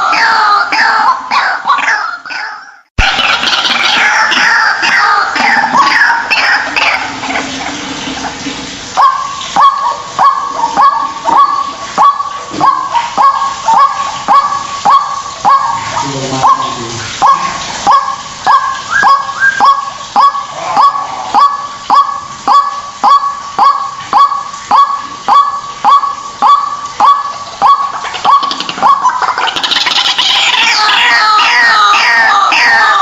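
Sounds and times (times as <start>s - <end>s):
waterhen honking calls: 0.0s - 33.0s.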